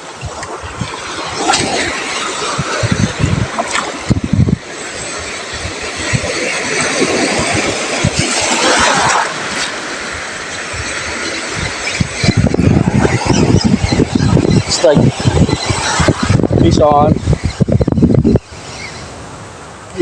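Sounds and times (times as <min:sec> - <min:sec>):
surf washing on rocky shore: 0:00.0 - 0:20.0
wind buffeting microphone: 0:00.0 - 0:20.0.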